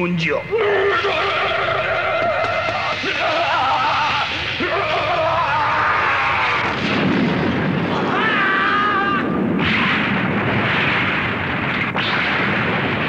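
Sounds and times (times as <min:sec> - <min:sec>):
explosion-like rumble: 0:00.9 - 0:13.0.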